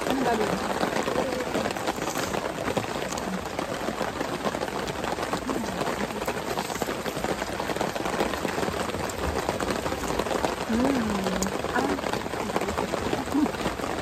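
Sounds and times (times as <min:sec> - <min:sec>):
rain pattering on a tarp: 0:00.0 - 0:14.0.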